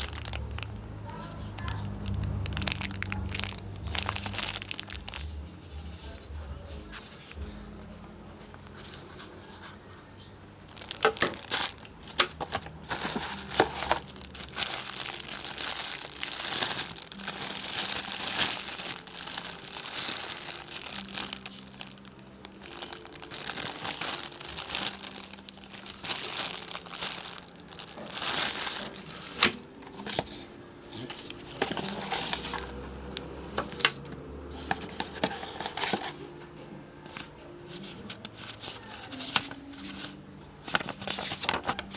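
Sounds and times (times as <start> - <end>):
plastic bags crinkling: 0.0 - 5.4, 10.6 - 36.2, 37.1 - 41.9.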